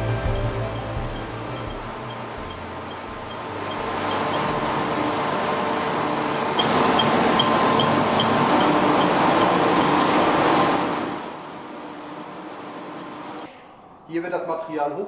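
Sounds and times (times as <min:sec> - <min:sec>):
shredding machinery running: 0:00.0 - 0:14.1
motor hum: 0:00.0 - 0:14.2.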